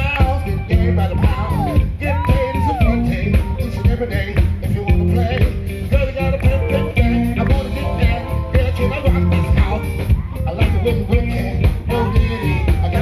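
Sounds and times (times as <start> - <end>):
live band playing groove: 0.0 - 13.0.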